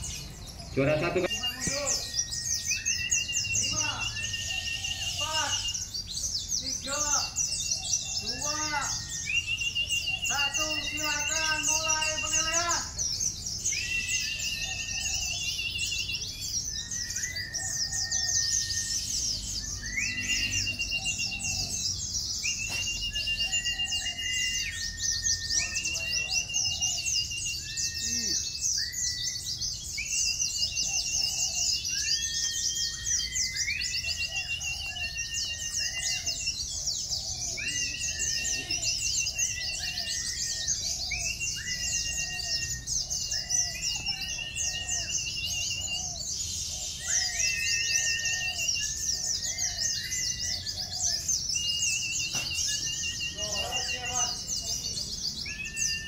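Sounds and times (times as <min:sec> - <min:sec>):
caged birds twittering: 0:00.0 - 0:56.0
whistled bird notes and trills: 0:00.0 - 0:56.0.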